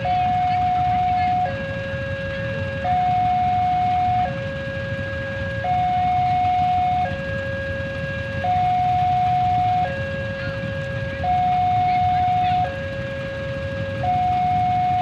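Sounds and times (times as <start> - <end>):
two-tone level crossing alarm: 0.0 - 15.0.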